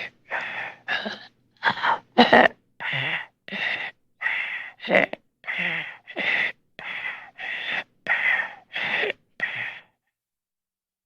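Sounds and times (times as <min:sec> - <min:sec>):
person gasping breaths: 0:00.0 - 0:10.0.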